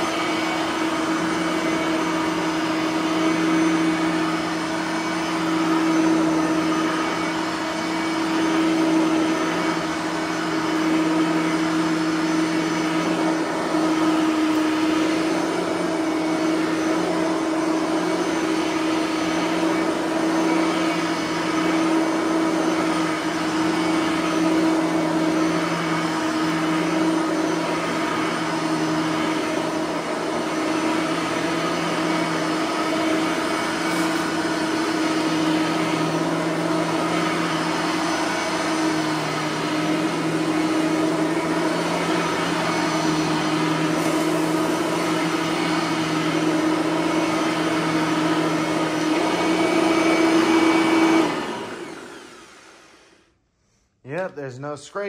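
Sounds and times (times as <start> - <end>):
vacuum cleaner motor whine: 0.0 - 53.4.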